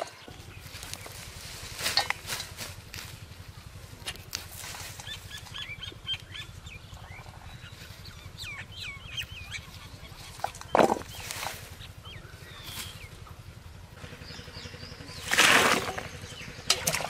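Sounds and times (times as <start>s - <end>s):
birds chirping: 0.0s - 17.0s
low steady rumble: 0.0s - 17.0s.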